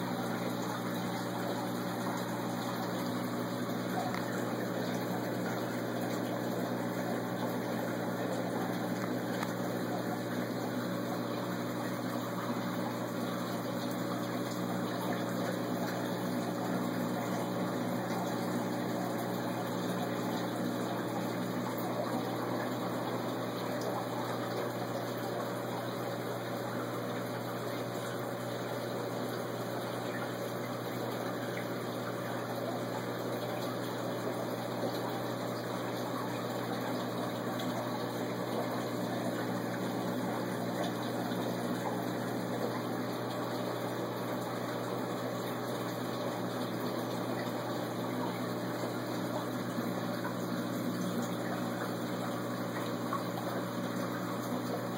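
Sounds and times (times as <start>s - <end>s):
low electric hum: 0.0s - 54.9s
rush of circulating water: 0.0s - 54.9s.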